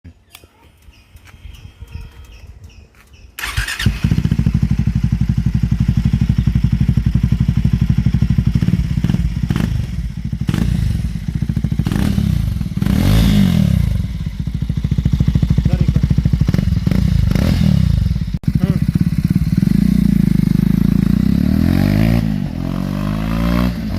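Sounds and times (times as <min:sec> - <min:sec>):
motorcycle engine idling and revving: 0:00.3 - 0:23.9.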